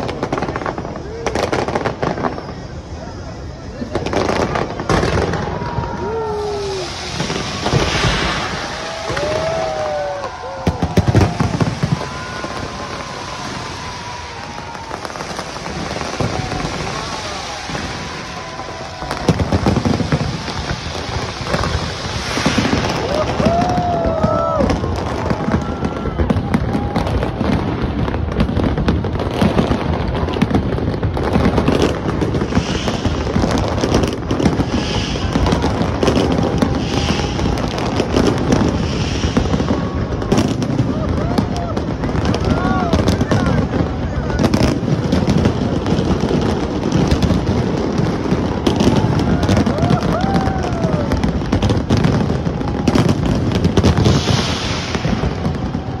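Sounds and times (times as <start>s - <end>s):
fireworks booming and crackling: 0.0s - 56.0s
fireworks hiss: 0.0s - 56.0s.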